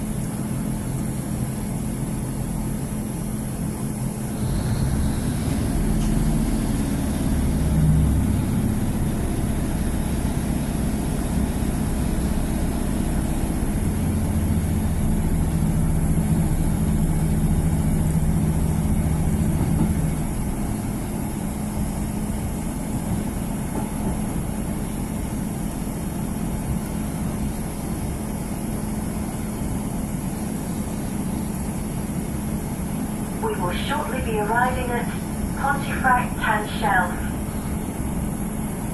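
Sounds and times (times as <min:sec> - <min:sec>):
diesel engine drone: 0:00.0 - 0:38.9
train rumble: 0:00.0 - 0:38.9.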